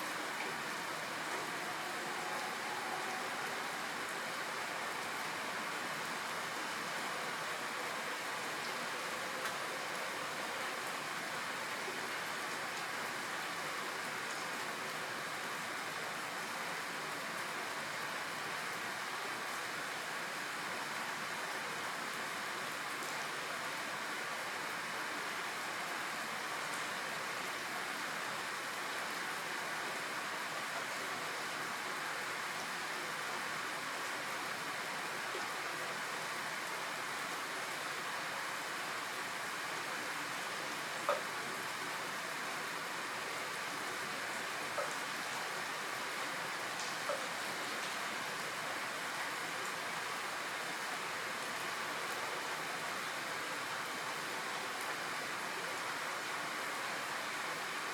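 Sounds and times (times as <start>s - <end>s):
faint raindrops: 0.0s - 57.9s
steady rainfall hiss: 0.0s - 57.9s.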